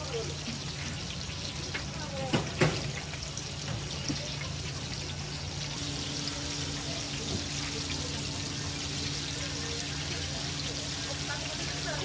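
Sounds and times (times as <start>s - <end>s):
patties sizzling on a griddle: 0.0s - 12.0s.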